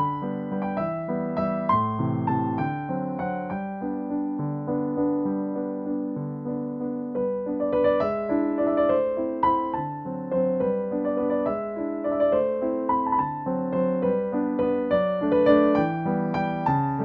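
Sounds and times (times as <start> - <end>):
piano melody over held chords: 0.0 - 17.0.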